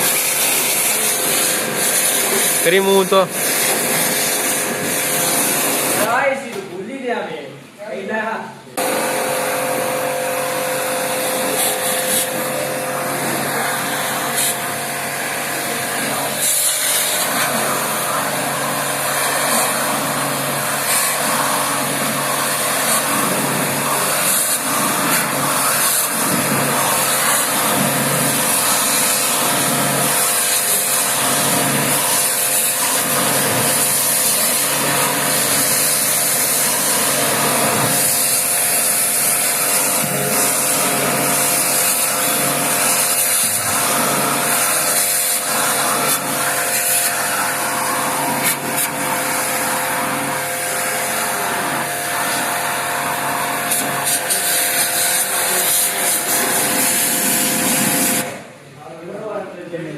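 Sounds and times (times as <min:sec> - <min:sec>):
water spray hissing: 0:00.0 - 0:06.2, 0:10.3 - 0:58.4
pressure washer motor hum: 0:00.0 - 0:06.6, 0:08.8 - 0:58.8.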